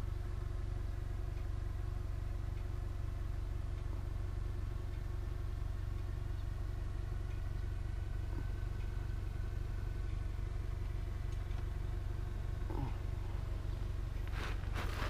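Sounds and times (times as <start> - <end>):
faint steady tones: 0.0 - 15.0
low engine hum: 0.0 - 15.0.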